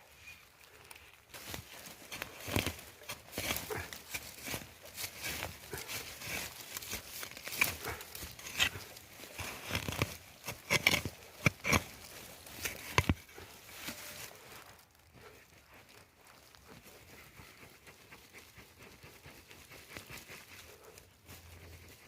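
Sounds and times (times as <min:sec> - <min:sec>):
rustling and crinkling: 0:00.0 - 0:22.0.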